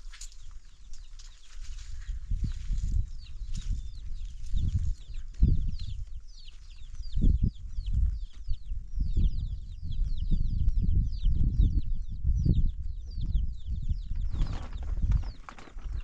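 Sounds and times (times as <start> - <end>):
chicks peeping: 0.1 - 16.0.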